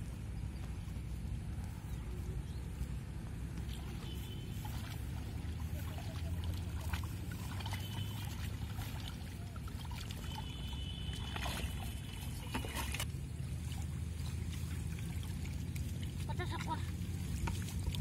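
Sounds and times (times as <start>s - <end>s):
steady low rumble: 0.0s - 10.1s, 13.0s - 18.0s
water sloshing and trickling: 1.8s - 18.0s
small splashes: 3.6s - 18.0s.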